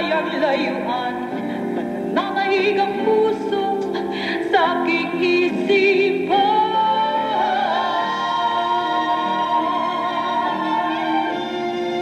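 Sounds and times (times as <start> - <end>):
musical accompaniment: 0.0 - 12.0
woman singing with vibrato: 0.0 - 12.0.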